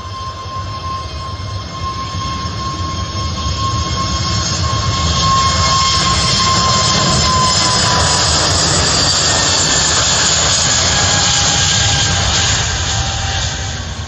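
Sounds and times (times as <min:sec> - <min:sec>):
jet engine hiss: 0:00.0 - 0:14.0
jet engines whining and rumbling: 0:00.0 - 0:14.0.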